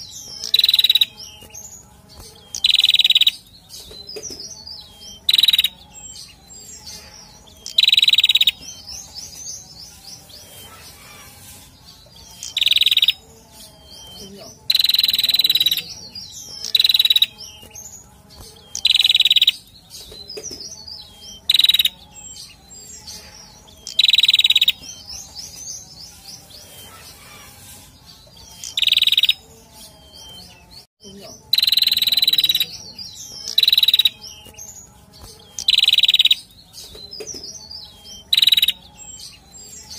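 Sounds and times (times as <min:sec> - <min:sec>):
tailorbird singing: 0:00.0 - 0:39.9.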